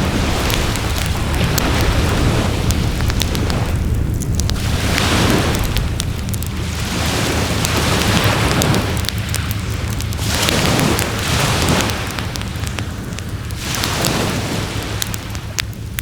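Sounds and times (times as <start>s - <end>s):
bonfire crackling: 0.0s - 16.0s
low rumble of surf: 0.0s - 16.0s
waves washing on beach: 0.0s - 16.0s.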